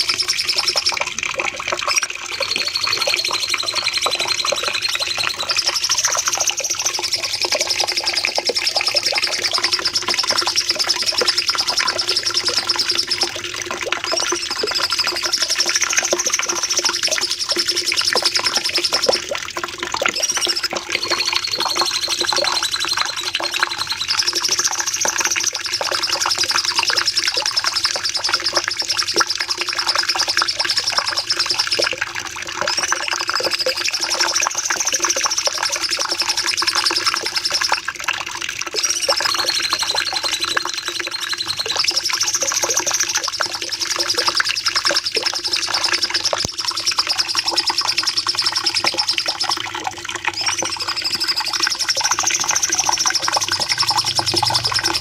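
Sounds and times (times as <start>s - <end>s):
songbird high-pitched trills: 0.0s - 1.2s, 1.9s - 19.3s, 20.1s - 32.0s, 32.7s - 37.8s, 38.7s - 55.0s.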